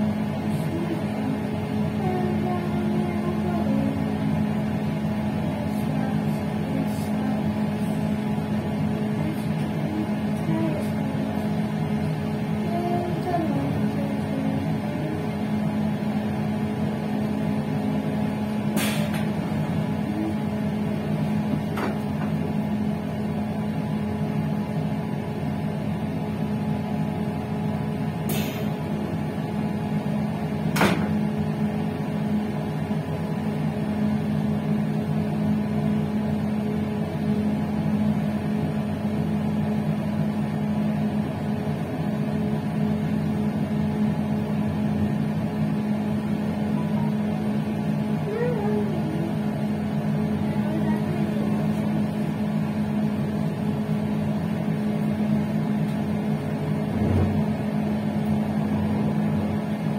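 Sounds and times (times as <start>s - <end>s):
passenger train hum: 0.0s - 59.9s.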